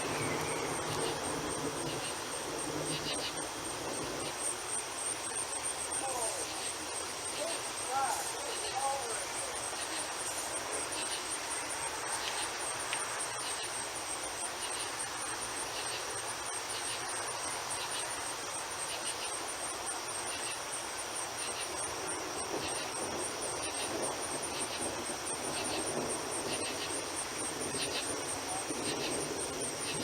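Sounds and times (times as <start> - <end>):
background hiss: 0.0 - 30.0
insect chirps: 0.0 - 30.0
insects trilling: 0.0 - 30.0.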